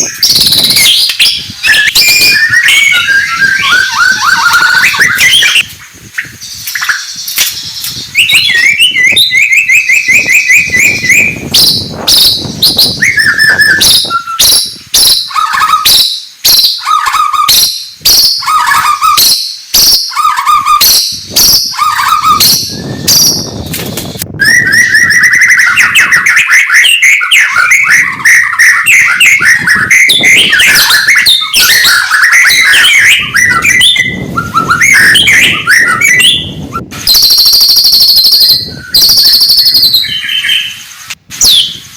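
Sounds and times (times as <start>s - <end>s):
bird singing whistled phrases: 0.0s - 41.9s.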